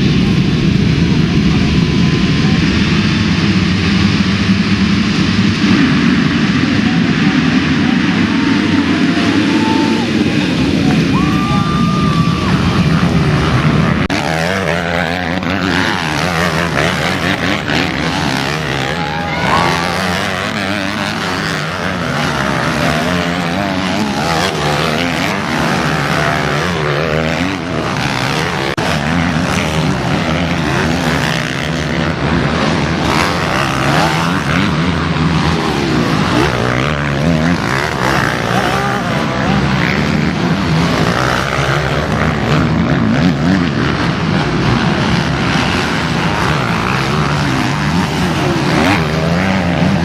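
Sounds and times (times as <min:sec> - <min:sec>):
motocross motorcycles revving: 0:00.0 - 0:50.0.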